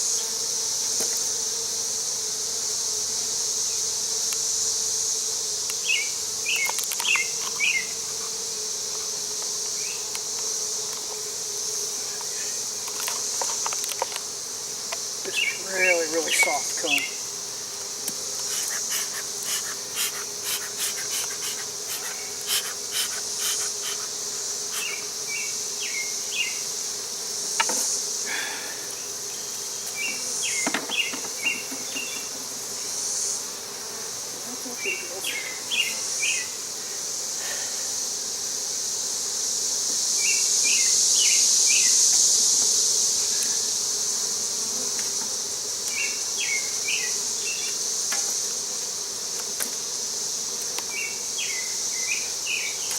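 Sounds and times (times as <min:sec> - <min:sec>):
bee colony buzzing: 0:00.0 - 0:52.9
high-pitched insect buzz: 0:00.0 - 0:52.9.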